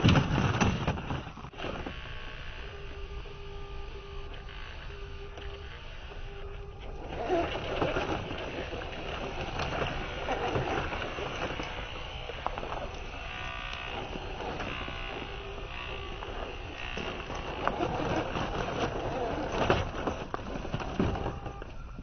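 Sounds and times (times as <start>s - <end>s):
toy car knocking over rough ground: 0.0s - 2.2s, 5.4s - 22.0s
small electric motor whining: 0.0s - 22.0s.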